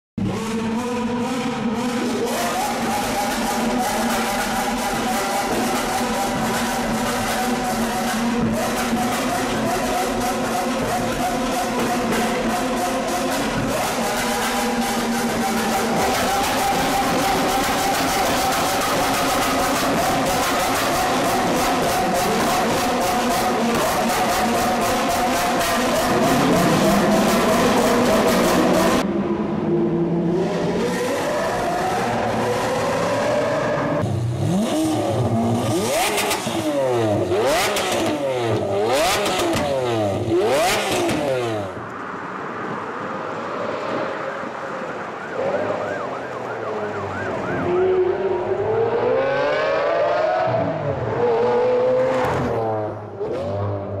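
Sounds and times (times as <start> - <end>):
car accelerating away: 0.2 - 41.8, 45.3 - 54.0
car engine revving: 0.2 - 41.9, 44.8 - 54.0.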